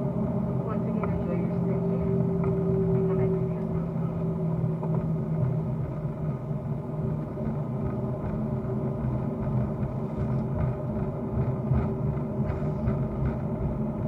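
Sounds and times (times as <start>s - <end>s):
vehicle engine drone from inside: 0.0s - 14.0s.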